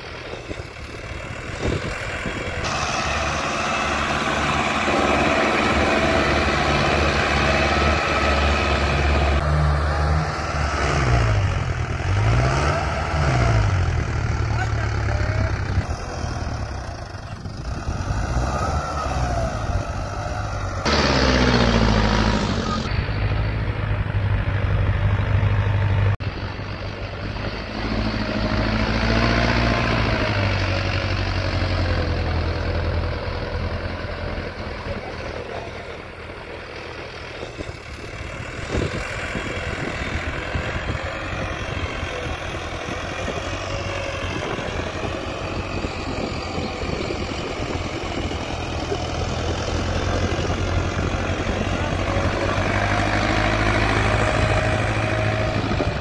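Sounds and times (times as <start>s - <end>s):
tractor diesel engine revving: 0.0s - 56.0s.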